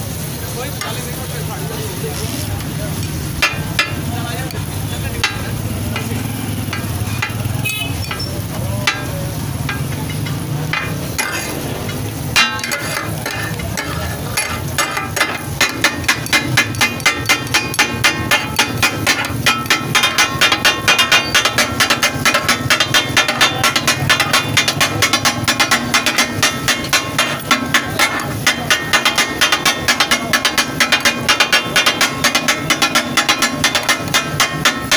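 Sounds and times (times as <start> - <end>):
oil sizzling: 0.0 - 34.9
metal spatula striking griddle: 0.8 - 1.2, 2.2 - 34.9.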